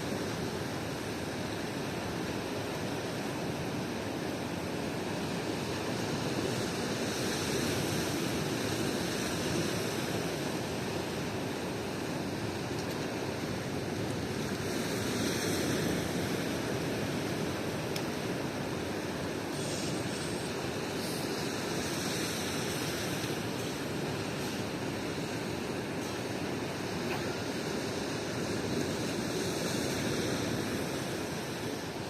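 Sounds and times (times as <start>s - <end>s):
surf rushing: 0.0s - 32.0s.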